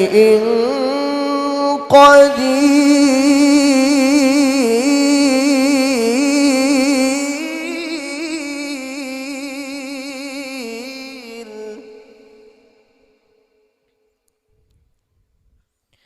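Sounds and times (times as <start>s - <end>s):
person reciting melodically: 0.0s - 13.1s.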